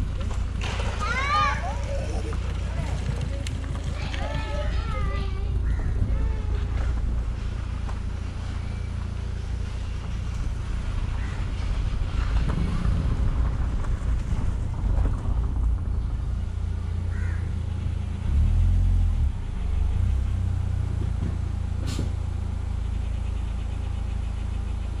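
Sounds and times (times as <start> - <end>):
motorcycle engine idling: 1.4 - 12.4, 13.3 - 25.0.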